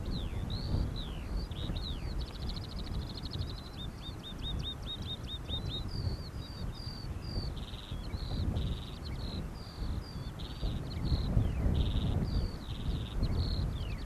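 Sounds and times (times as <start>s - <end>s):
songbird singing: 0.0s - 14.0s
wind rumble on microphone: 0.0s - 14.0s.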